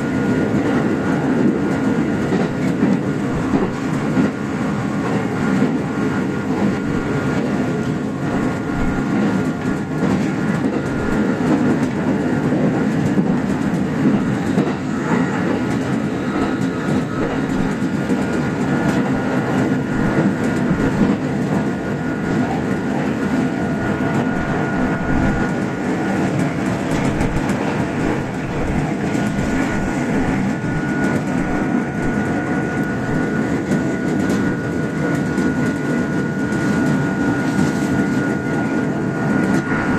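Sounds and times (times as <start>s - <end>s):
clickety-clack over rail joints: 0.0s - 39.9s
train wheels rumbling on track: 0.0s - 39.9s.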